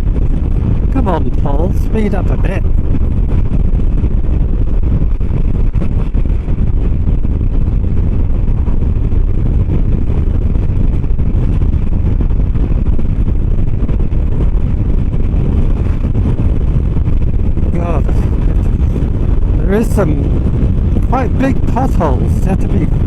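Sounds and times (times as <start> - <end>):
scooter engine and road noise: 0.0 - 23.0
wind rumble on microphone: 0.0 - 23.0.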